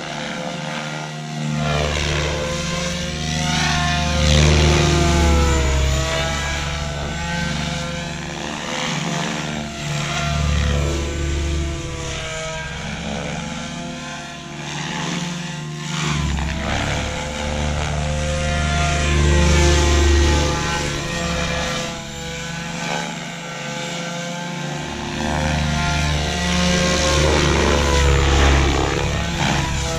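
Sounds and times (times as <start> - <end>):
helicopter rotor and motor whine: 0.0 - 29.9.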